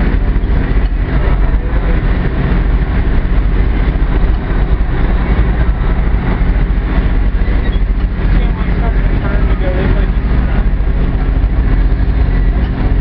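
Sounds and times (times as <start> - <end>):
boat engine drone: 0.0 - 13.0
wind and water wash: 0.0 - 13.0.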